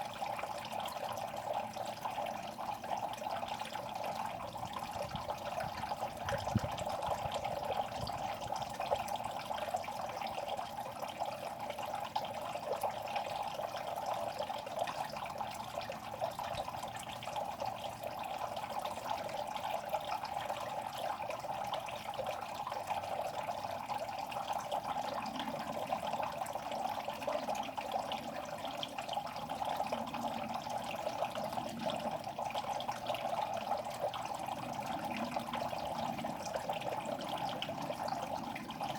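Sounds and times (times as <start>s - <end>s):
pond water trickling and splashing: 0.0s - 38.9s
small crackling drips: 0.0s - 38.9s.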